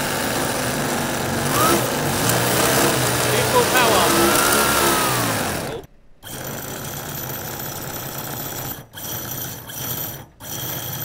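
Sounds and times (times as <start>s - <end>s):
model engine running: 0.0s - 11.0s.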